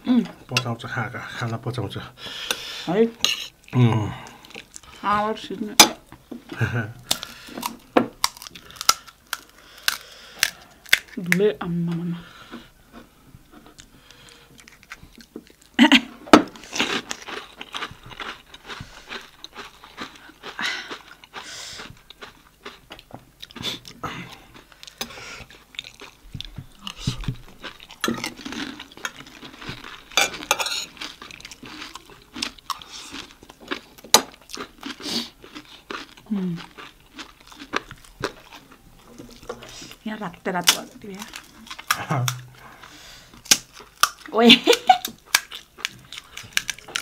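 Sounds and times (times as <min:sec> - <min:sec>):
crunching crisp fried shells: 0:03.5 - 0:11.4, 0:13.8 - 0:15.8, 0:16.5 - 0:47.0.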